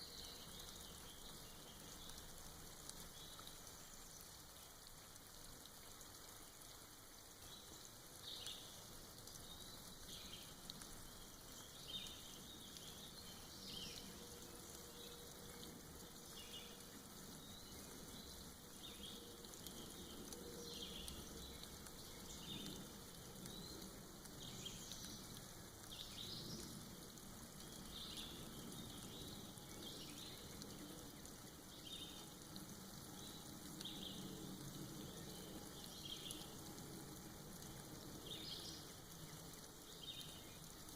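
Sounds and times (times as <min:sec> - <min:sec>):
light water drops: 0:00.0 - 0:40.9
soft rain patter: 0:00.0 - 0:40.9.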